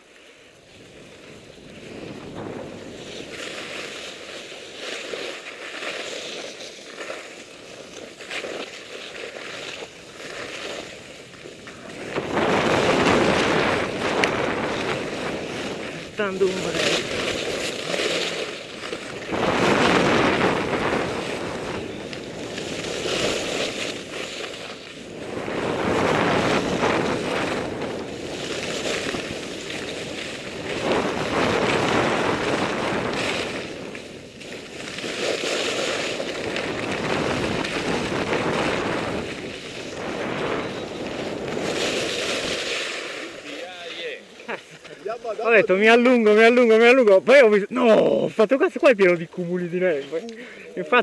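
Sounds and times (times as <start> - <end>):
skis scraping on snow: 0.0 - 51.0
wind buffeting microphone: 0.6 - 4.3, 9.9 - 51.0.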